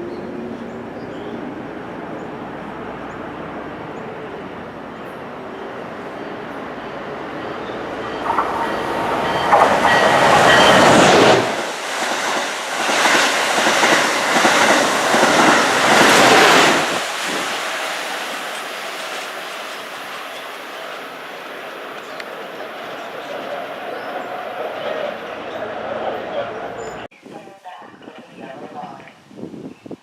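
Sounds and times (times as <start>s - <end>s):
passenger train passing: 0.0s - 27.1s.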